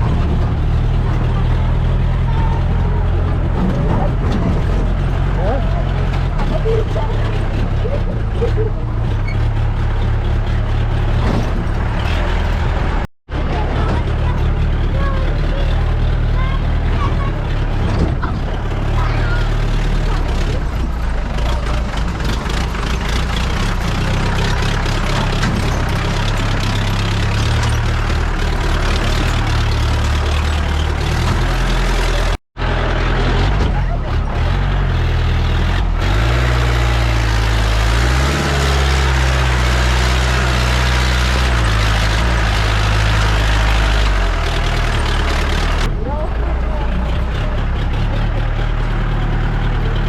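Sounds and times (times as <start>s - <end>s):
car engine running under load: 0.0s - 50.0s.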